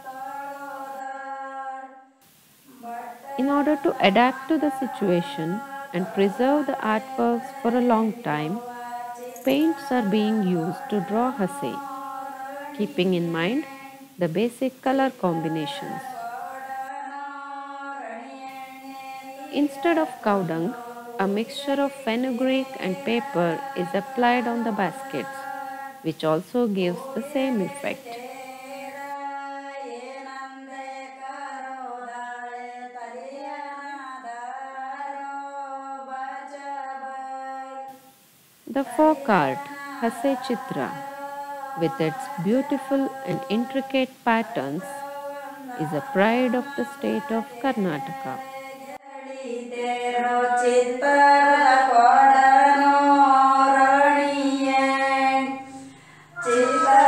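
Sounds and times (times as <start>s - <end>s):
woman singing slow melody: 0.0s - 1.7s, 2.7s - 38.0s, 38.7s - 57.0s.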